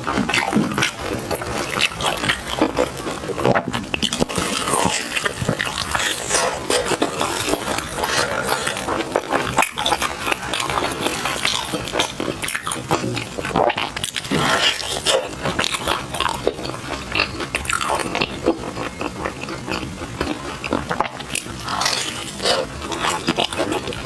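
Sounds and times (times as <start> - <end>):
wet chewing clicks and smacks: 0.0 - 24.0.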